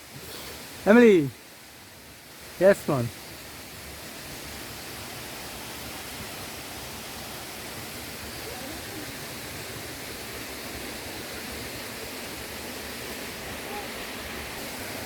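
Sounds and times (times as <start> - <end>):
waterfall rushing: 0.1 - 15.0.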